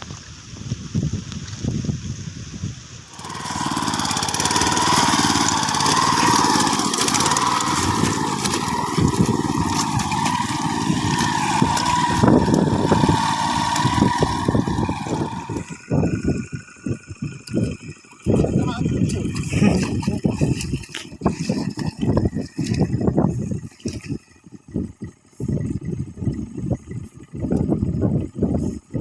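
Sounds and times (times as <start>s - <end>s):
small engine running: 3.1s - 29.0s.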